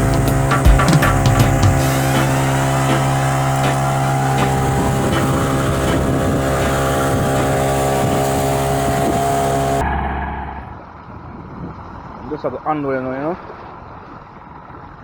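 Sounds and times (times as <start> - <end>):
outboard motor running: 0.0 - 12.2
wind noise: 0.0 - 12.7
water noise: 0.0 - 15.0.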